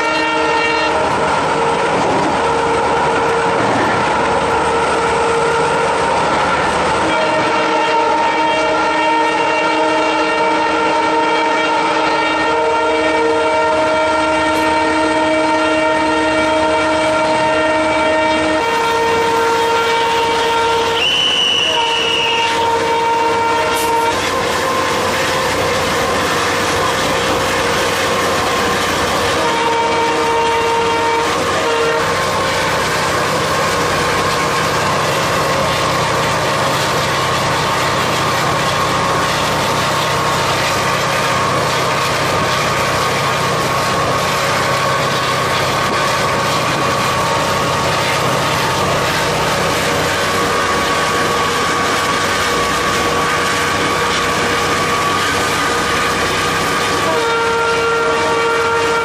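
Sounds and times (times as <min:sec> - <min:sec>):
diesel locomotive engine under power: 0:00.0 - 0:59.0
locomotive horn: 0:00.0 - 0:59.0.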